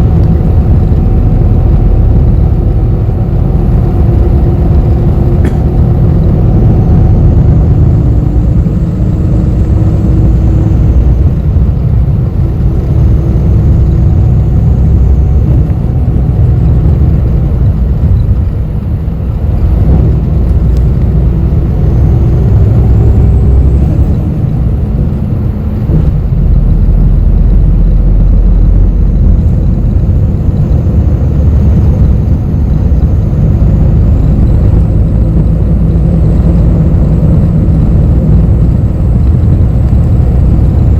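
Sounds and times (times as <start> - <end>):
bus engine and road rumble: 0.0 - 40.9
faint engine hum: 0.0 - 40.9.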